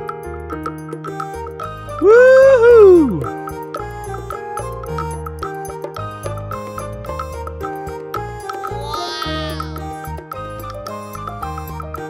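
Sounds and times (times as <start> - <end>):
background music with ticking beat: 0.0 - 12.0.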